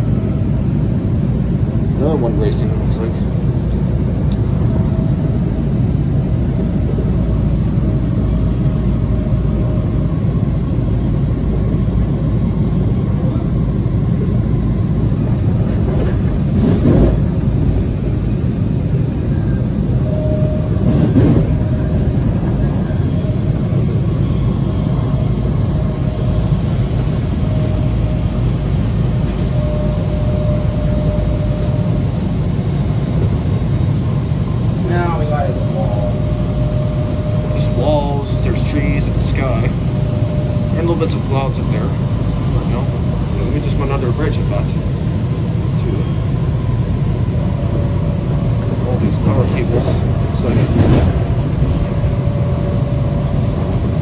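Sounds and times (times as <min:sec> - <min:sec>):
faint whine: 0:00.0 - 0:54.0
train wheels rumbling: 0:00.0 - 0:54.0.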